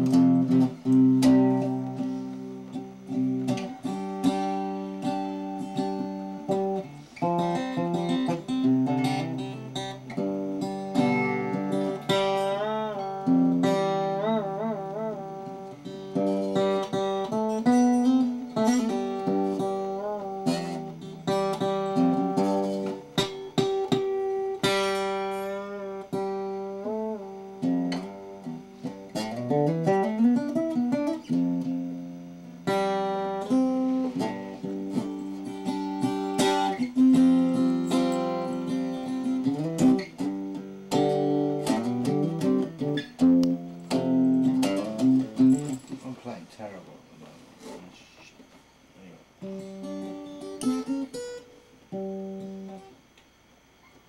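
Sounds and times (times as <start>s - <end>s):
acoustic guitar: 0.0s - 53.2s.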